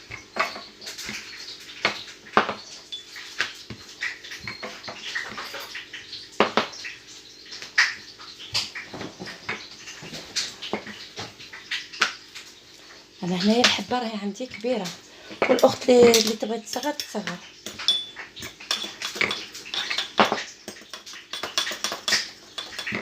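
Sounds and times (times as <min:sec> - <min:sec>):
utensils and kitchenware clicking: 0:00.0 - 0:23.0.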